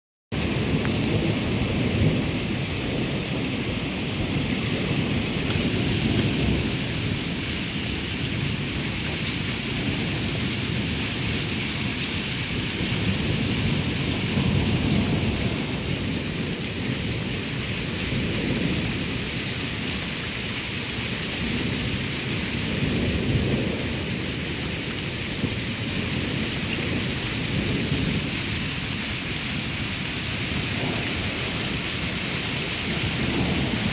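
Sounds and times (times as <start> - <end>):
steady rain: 0.3 - 33.9
thunder rumbling: 0.3 - 33.9.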